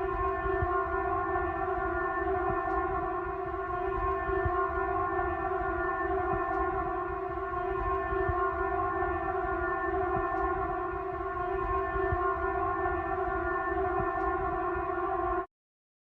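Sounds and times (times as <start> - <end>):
steady siren alarm tone: 0.0 - 15.5.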